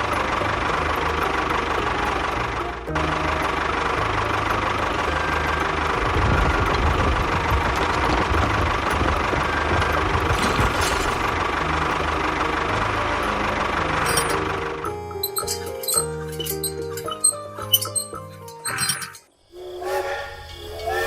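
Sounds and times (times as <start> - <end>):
small engine knocking chug: 0.0 - 18.6.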